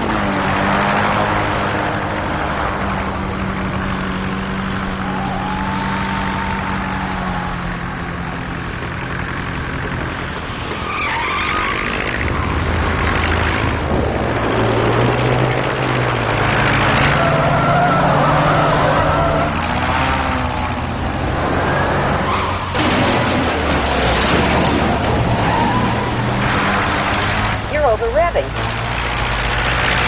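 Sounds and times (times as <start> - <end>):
engines running hard: 0.0 - 30.0
tyres skidding: 0.0 - 30.0.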